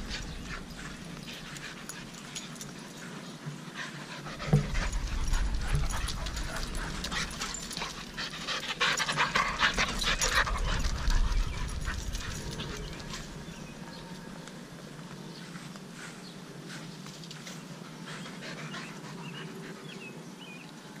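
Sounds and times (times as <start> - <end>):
dogs panting: 0.0 - 14.3, 15.0 - 20.6.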